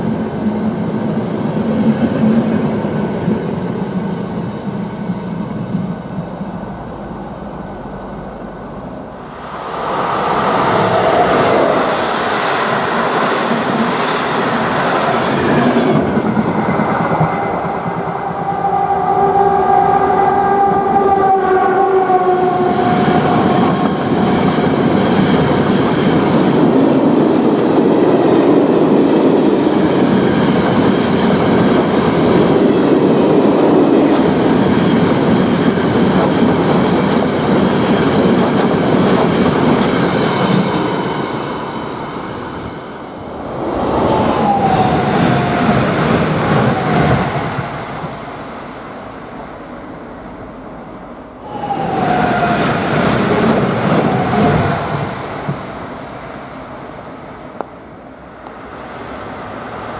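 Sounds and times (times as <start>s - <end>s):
electric passenger train rushing by: 0.0s - 59.9s
passing train whine: 0.0s - 59.9s.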